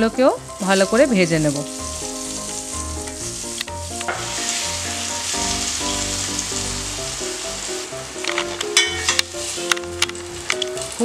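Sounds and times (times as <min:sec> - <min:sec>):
pumpkin sizzling in hot oil: 0:00.0 - 0:11.0.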